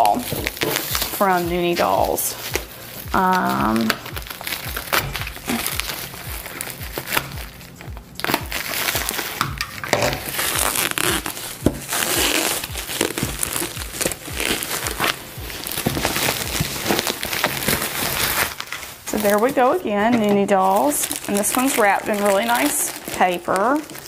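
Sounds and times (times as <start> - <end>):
paper packaging crinkling: 0.0 - 24.0.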